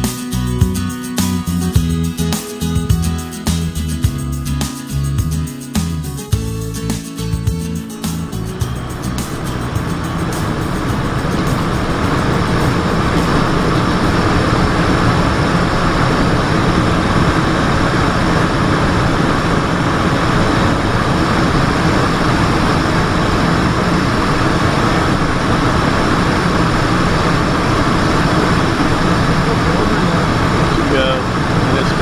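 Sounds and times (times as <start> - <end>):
jet engines in cabin: 5.5 - 32.0
airflow over fuselage: 6.3 - 32.0.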